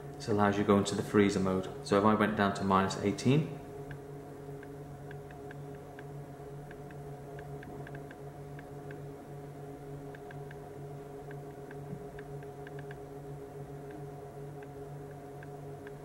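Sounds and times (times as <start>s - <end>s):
refrigerated drawer unit humming: 0.0s - 16.0s.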